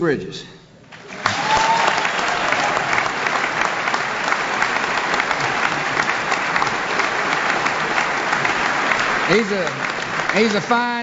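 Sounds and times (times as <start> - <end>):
audience applauding: 0.9 - 11.0.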